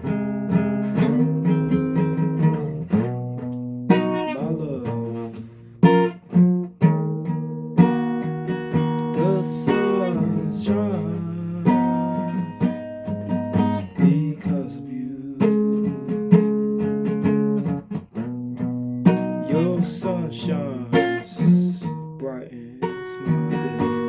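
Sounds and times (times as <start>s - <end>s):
guitar chords ringing: 0.0s - 24.0s.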